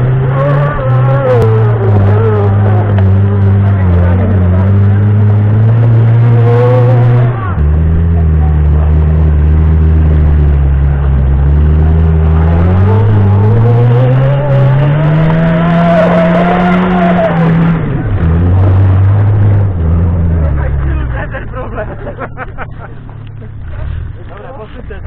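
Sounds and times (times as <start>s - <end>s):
car engine revving high: 0.0s - 24.4s.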